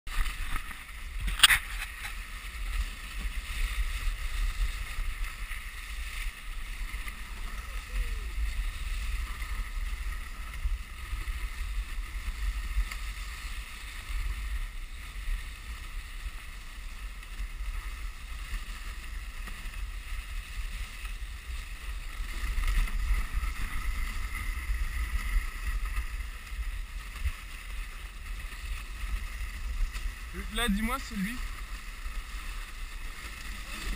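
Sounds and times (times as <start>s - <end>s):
sled runners hissing on snow: 0.2s - 33.9s.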